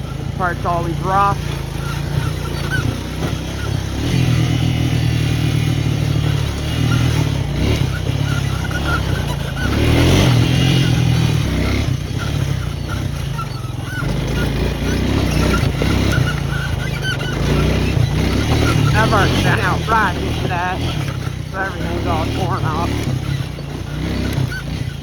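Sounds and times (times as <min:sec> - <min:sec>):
off-road vehicle engine running: 0:00.0 - 0:25.0.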